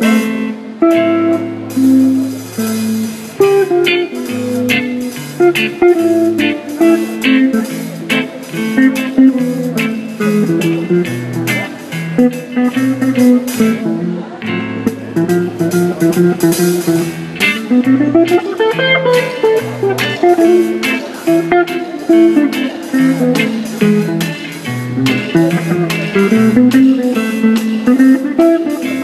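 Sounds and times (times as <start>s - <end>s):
drum kit: 0.0s - 29.0s
electric bass: 0.0s - 29.0s
electric guitar: 0.0s - 29.0s.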